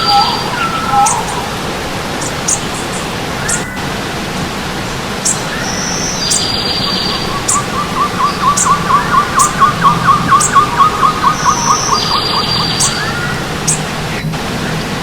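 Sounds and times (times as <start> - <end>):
bird chirping rapidly: 0.0 - 1.6, 2.2 - 3.9, 5.2 - 14.3
buzzy bird trill: 0.0 - 1.6, 2.2 - 3.8, 5.2 - 14.3
birds singing: 0.0 - 15.0
stream running: 0.0 - 15.0.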